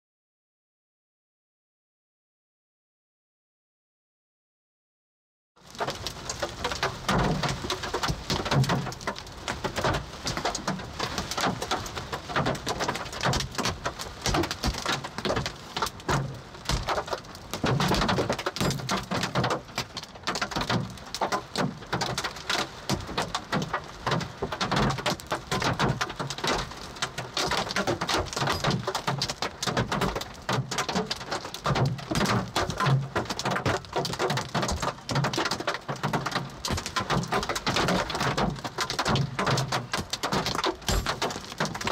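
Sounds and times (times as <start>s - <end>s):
hail and rain on car roof: 5.6s - 41.9s
hailstones thudding: 5.6s - 41.9s.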